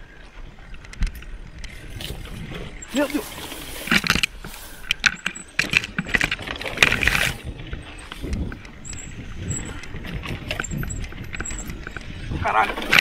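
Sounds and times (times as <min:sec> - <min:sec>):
bike rattling: 0:00.0 - 0:13.0
bike tyres rumbling on dirt: 0:00.0 - 0:13.0
grass brushing against bike: 0:01.8 - 0:13.0.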